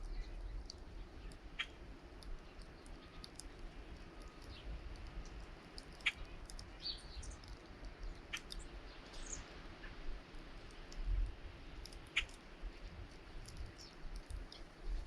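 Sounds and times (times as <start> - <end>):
small birds chirping: 0.0 - 10.1, 10.9 - 15.0
low wind rumble: 0.0 - 15.0.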